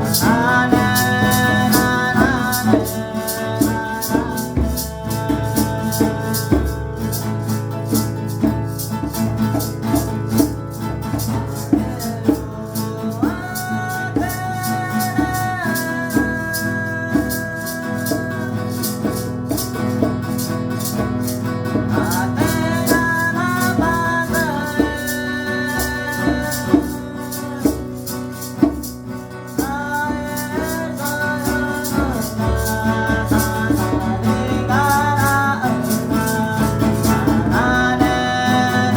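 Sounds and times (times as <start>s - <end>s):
rattle shaken rhythmically: 0.0s - 38.9s
strummed guitar: 0.0s - 38.9s.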